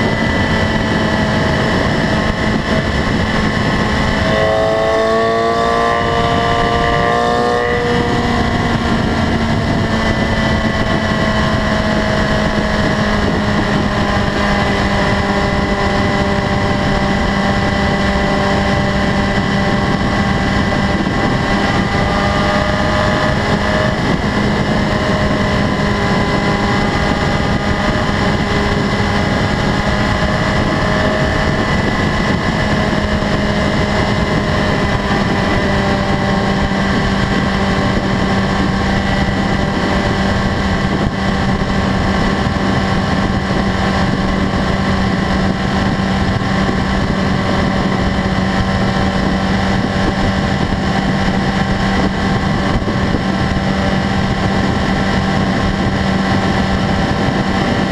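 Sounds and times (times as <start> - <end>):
motorcycle engine cruising hum: 0.0 - 57.9
wind noise: 0.0 - 57.9.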